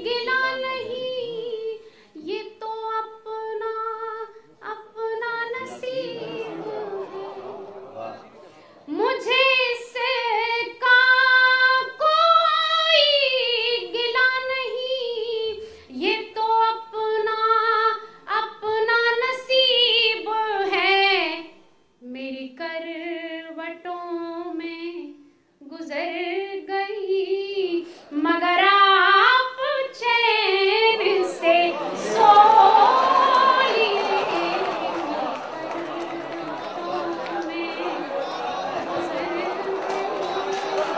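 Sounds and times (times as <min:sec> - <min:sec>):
woman singing unaccompanied: 0:00.0 - 0:07.2, 0:08.9 - 0:35.2.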